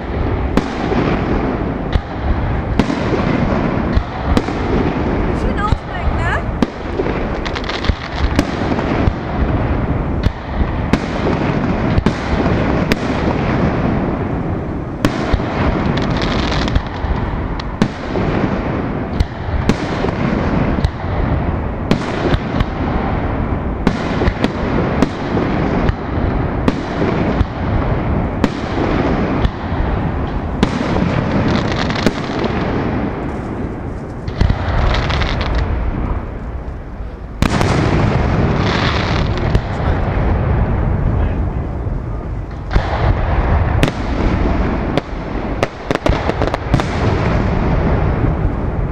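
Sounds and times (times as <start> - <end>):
continuous low rumble: 0.0 - 48.9.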